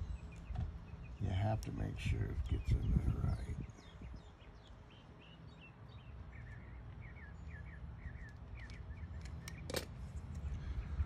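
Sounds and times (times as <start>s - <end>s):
low steady background rumble: 0.0s - 11.0s
small birds chirping: 0.0s - 11.0s.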